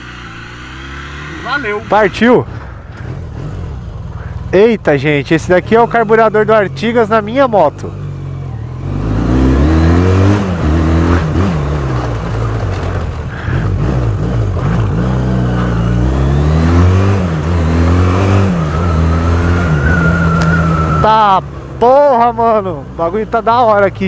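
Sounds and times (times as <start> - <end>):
motorcycle engine accelerating: 0.0 - 23.8.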